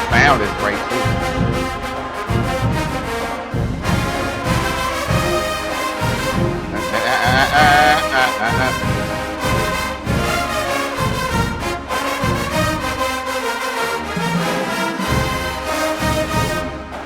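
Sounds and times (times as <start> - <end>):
marching band playing: 0.0 - 17.0
wavering high brass line: 0.0 - 17.0.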